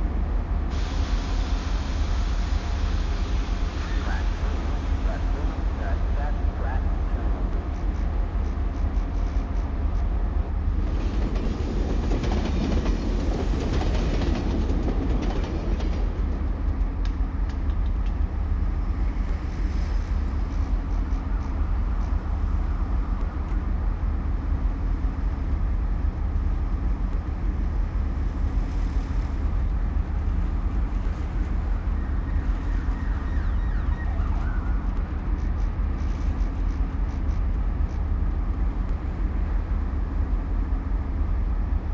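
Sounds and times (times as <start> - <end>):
low rumble of traffic: 0.0 - 41.9.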